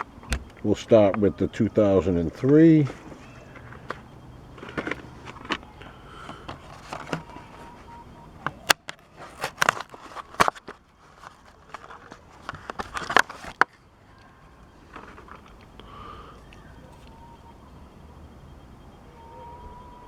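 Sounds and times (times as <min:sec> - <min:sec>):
plastic blister packaging crackling: 0:00.0 - 0:17.2.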